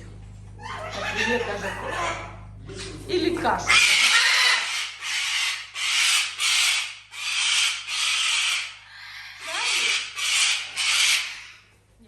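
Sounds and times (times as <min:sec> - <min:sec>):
parrot squawking: 0:00.6 - 0:11.8.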